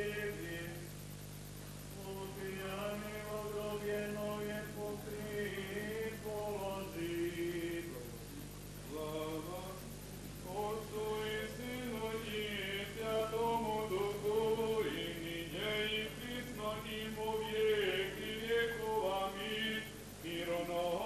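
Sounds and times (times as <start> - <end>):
men chanting a hymn: 0.0 - 0.9, 1.9 - 8.3, 8.9 - 21.0
steady low hum: 0.0 - 21.0.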